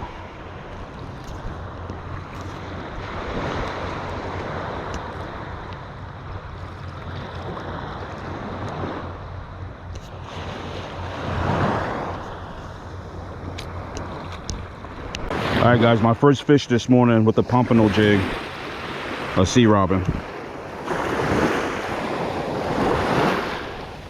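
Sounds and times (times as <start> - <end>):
wind rumbling on microphone: 0.0 - 16.2, 17.4 - 24.0
surf waves washing onto beach: 0.0 - 24.0.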